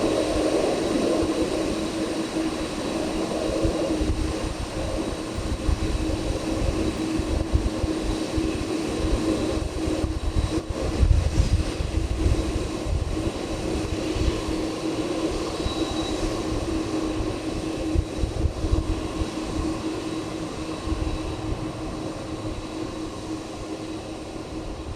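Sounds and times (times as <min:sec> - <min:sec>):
jet engines whining: 0:00.0 - 0:24.9.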